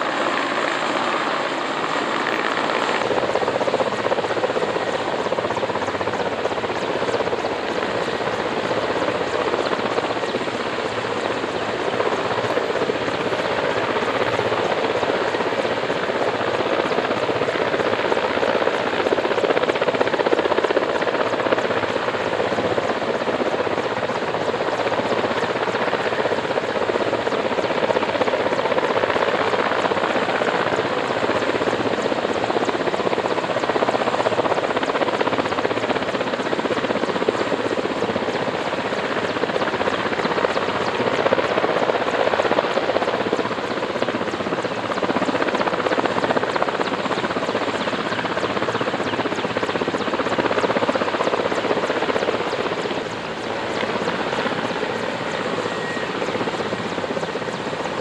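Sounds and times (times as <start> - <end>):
helicopter rotor chopping: 0.0 - 58.0.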